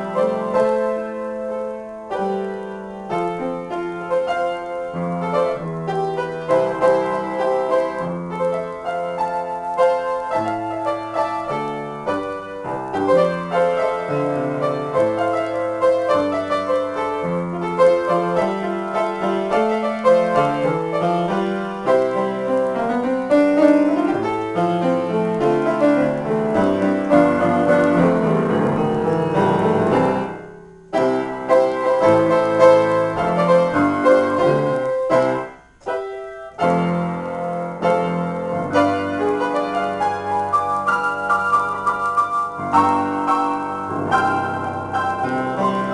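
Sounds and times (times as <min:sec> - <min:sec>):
solo piano improvisation: 0:00.0 - 0:45.9.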